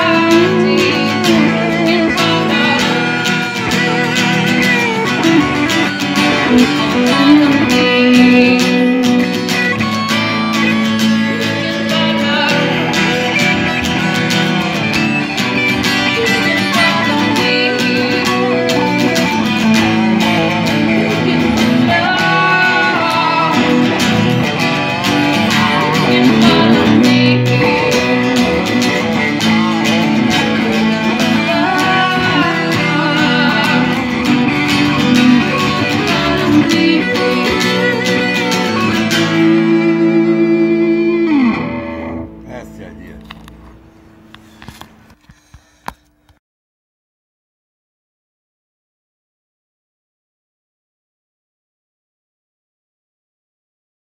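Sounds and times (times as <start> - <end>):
electric bass: 0.0 - 45.2
strummed acoustic guitar: 0.0 - 45.8.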